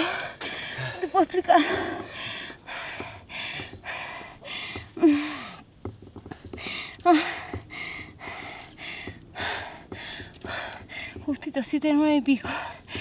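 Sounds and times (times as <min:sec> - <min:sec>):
woman panting: 0:00.0 - 0:05.6, 0:06.4 - 0:11.2, 0:12.4 - 0:13.0.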